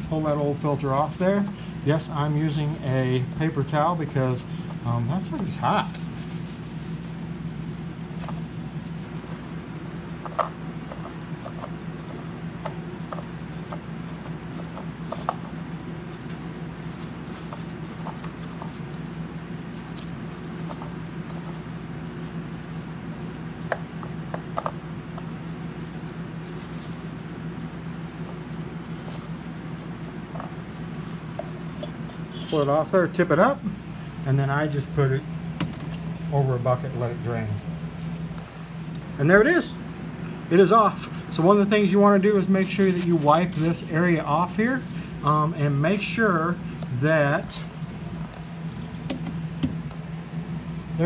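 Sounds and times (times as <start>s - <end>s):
paper towel crinkling: 0.0s - 33.8s, 34.7s - 50.4s
steady low hum: 0.0s - 51.0s.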